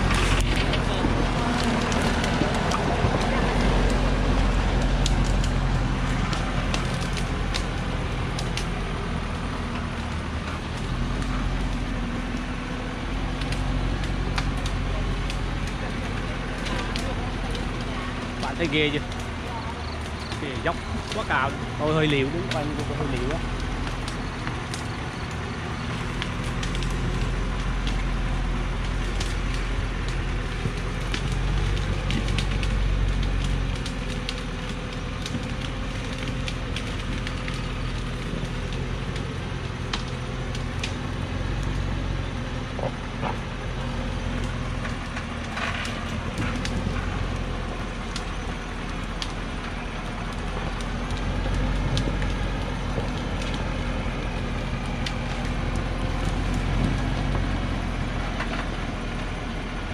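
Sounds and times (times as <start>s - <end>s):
sharp cracks and snaps: 0.0s - 59.6s
truck diesel engine running: 0.0s - 59.9s.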